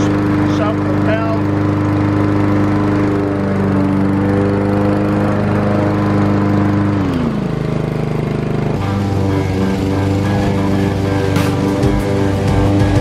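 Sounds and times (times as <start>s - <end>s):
lawn mower engine running: 0.0s - 13.0s
mower cutting grass: 0.0s - 13.0s.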